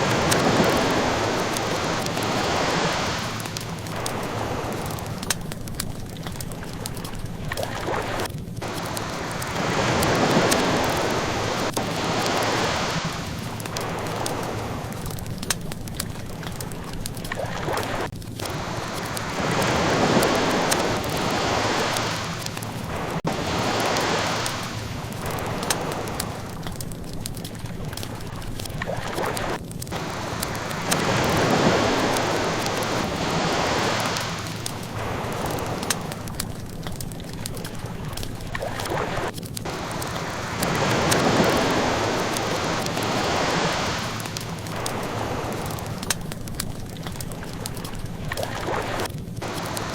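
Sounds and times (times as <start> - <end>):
ocean waves washing ashore: 0.0 - 49.9
wood fire crackling: 0.0 - 49.9.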